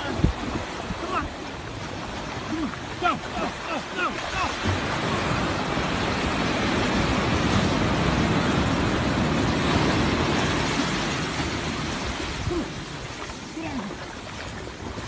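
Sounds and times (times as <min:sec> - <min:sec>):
surf washing up beach: 0:00.0 - 0:15.0.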